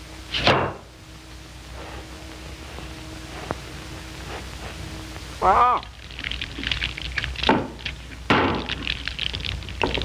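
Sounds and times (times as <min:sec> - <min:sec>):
faint hum: 0:00.0 - 0:10.0
film soundtrack hiss: 0:00.0 - 0:10.0.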